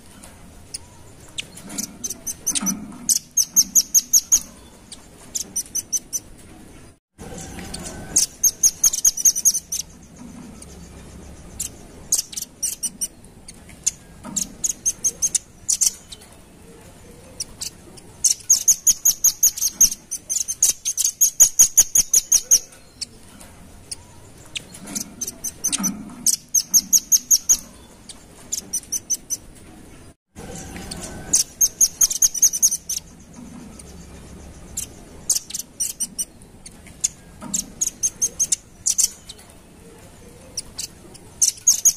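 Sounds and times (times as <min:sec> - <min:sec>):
nuthatch trilling: 0:00.7 - 0:06.3, 0:07.4 - 0:16.3, 0:17.2 - 0:23.2, 0:23.9 - 0:29.4, 0:30.5 - 0:39.5, 0:40.3 - 0:41.9.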